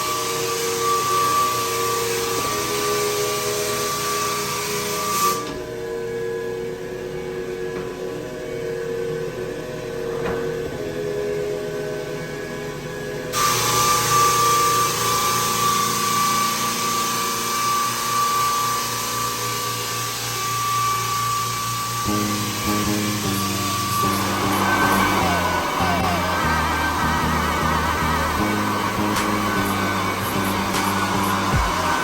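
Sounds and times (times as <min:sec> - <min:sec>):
floor sanding machine: 0:00.0 - 0:32.0.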